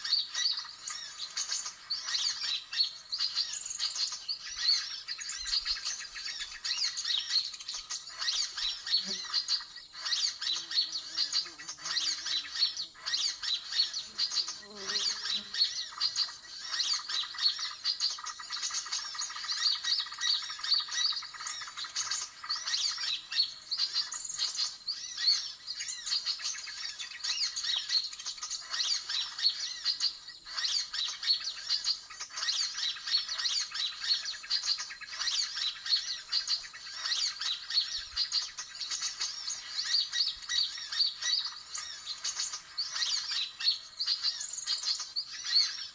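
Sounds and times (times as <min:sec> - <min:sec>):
small birds chattering and chirping: 0:00.0 - 0:45.9.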